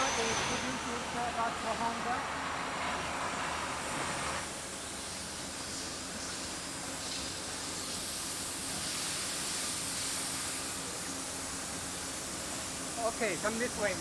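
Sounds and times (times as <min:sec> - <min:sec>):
machining equipment hissing and humming: 0:00.0 - 0:14.0.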